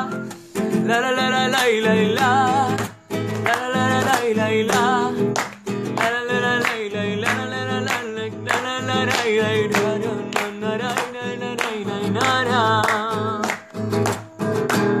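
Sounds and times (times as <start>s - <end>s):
man singing: 0.0s - 13.8s
acoustic guitar strumming: 0.0s - 15.0s.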